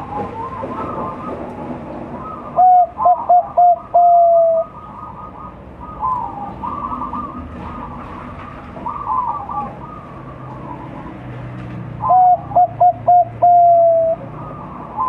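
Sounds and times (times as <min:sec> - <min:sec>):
birds chattering: 0:00.0 - 0:15.0
dove cooing: 0:02.2 - 0:11.3, 0:12.0 - 0:15.0.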